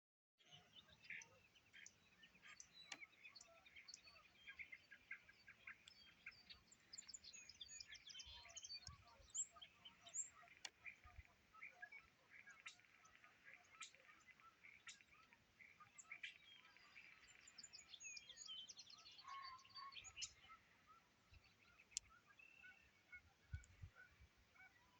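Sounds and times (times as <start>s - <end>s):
small birds chirping and singing: 0.4s - 24.9s.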